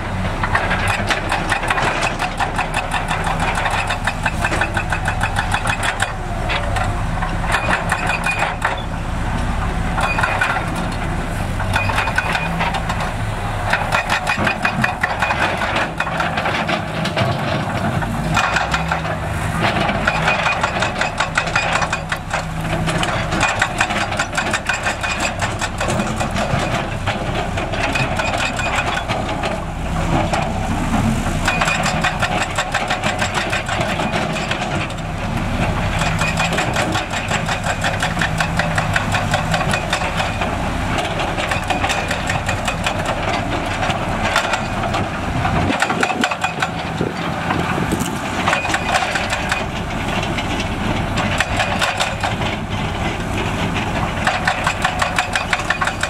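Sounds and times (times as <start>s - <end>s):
diesel engine clattering: 0.0s - 56.0s.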